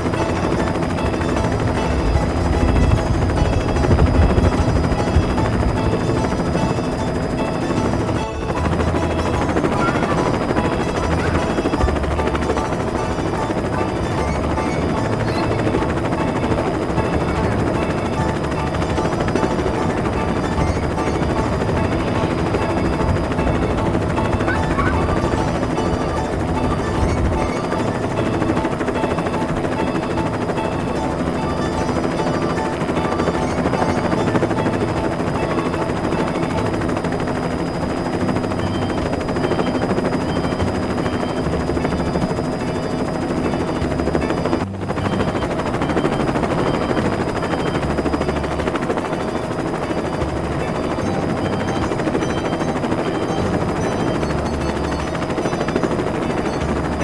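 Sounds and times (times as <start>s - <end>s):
electronic tones: 0.0s - 57.0s
toy helicopter rotor sound effect: 0.0s - 57.0s.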